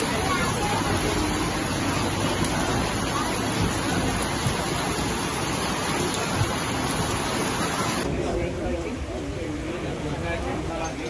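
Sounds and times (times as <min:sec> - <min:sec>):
heavy rain on flooded street: 0:00.0 - 0:11.0.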